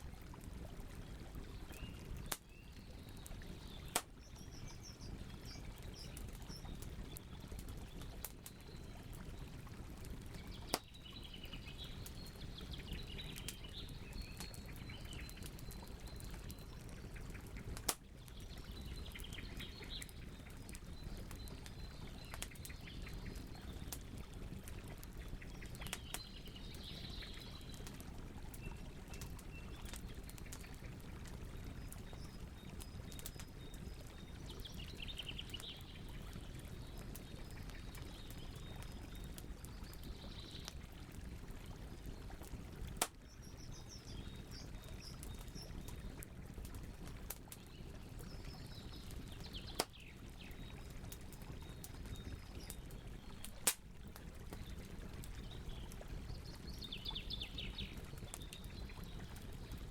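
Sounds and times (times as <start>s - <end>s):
campfire crackling: 0.0s - 59.9s
fire popping: 0.1s - 59.9s.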